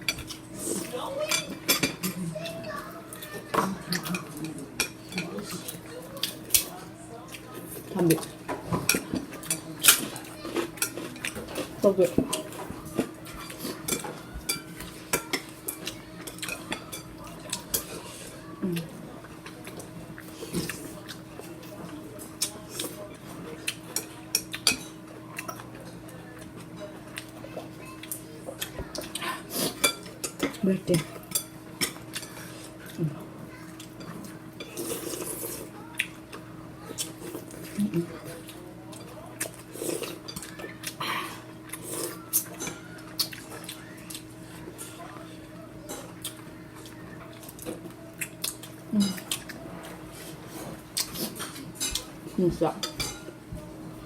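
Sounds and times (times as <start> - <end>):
utensils clinking against dishes: 0.0 - 53.6.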